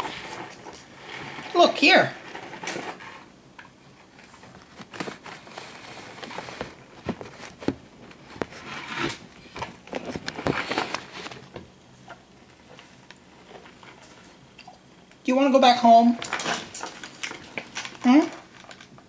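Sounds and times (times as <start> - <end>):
rustling: 0.0 - 14.6, 16.0 - 19.0.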